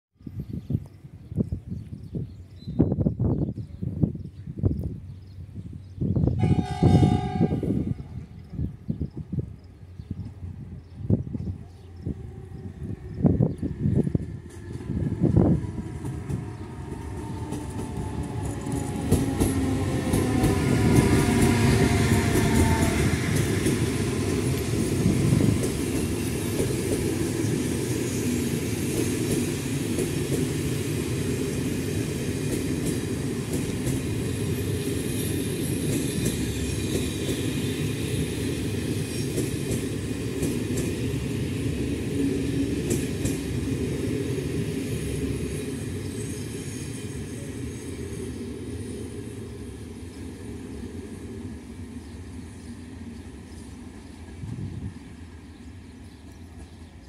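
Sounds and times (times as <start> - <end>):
train wheels rumbling: 6.2 - 57.0
locomotive whine: 6.3 - 57.0.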